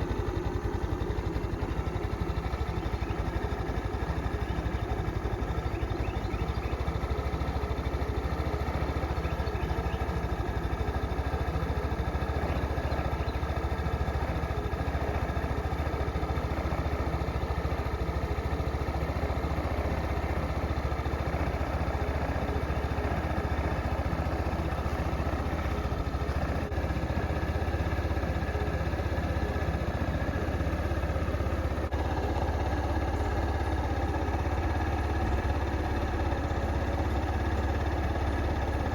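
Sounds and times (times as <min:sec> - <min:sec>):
scooter engine idling: 0:00.0 - 0:38.9.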